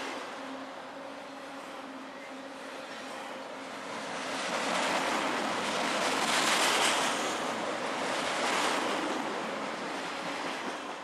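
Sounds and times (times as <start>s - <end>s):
freight train wheels on rail: 0.0s - 11.0s.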